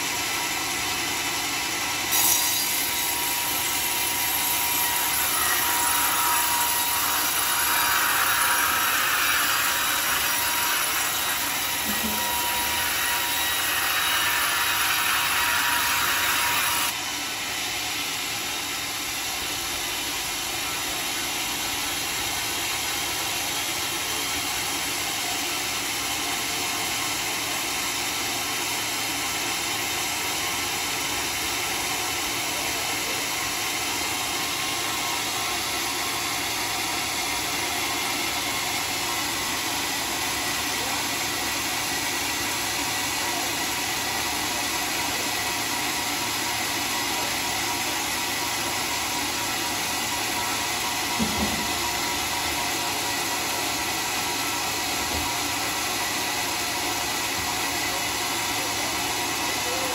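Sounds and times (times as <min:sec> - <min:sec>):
saw blade cutting log: 0:00.0 - 0:59.9
sawmill running: 0:00.0 - 0:59.9.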